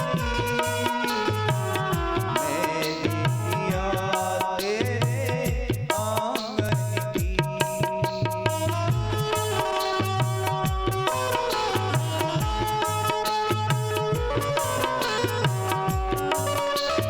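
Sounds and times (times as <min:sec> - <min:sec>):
hand drum beat: 0:00.0 - 0:17.0.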